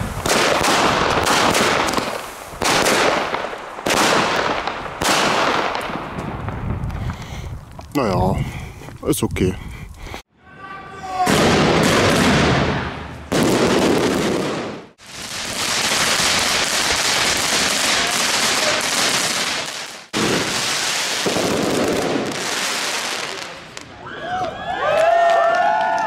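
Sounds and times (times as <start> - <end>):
fireworks crackling and hissing: 0.0 - 10.3, 11.3 - 24.0.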